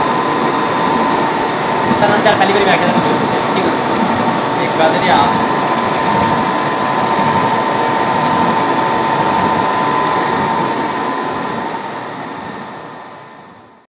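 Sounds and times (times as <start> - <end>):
milling machine whining: 0.0 - 13.8.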